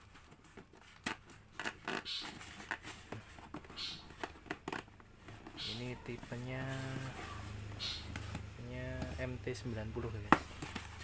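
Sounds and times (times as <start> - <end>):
cardboard box being opened: 0.0 - 11.0.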